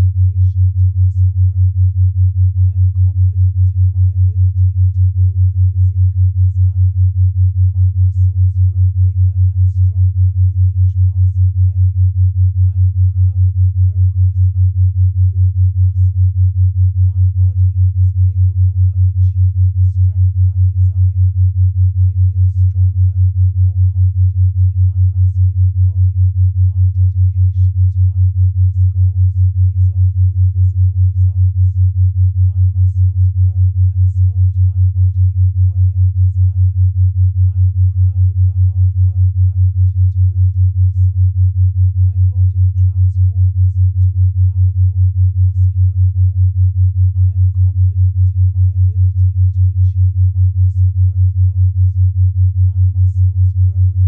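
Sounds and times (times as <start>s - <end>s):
low pulsing pure tone: 0.0s - 54.0s.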